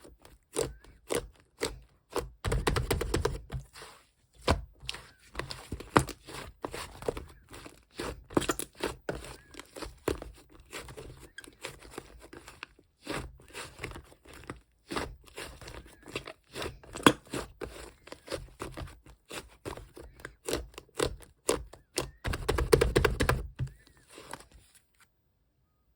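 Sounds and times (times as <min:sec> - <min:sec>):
hands squishing slime: 0:00.0 - 0:24.4.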